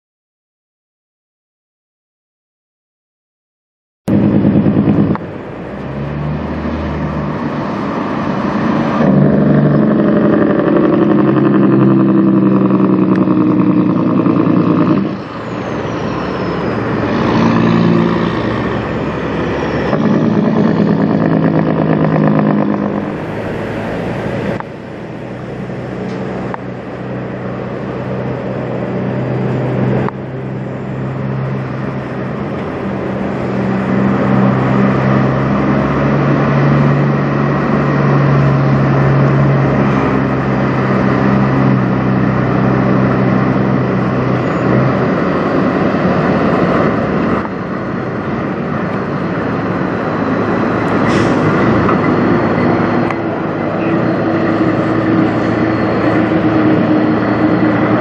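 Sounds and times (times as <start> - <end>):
pickup truck passing: 4.1 - 58.0
truck diesel engine running: 4.1 - 58.0.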